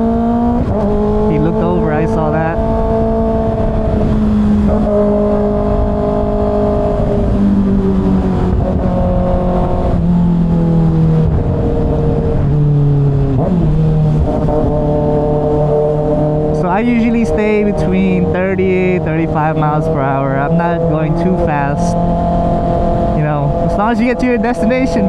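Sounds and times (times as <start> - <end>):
low wind rumble: 0.0 - 25.0
motorcycle engine revving: 0.0 - 25.0.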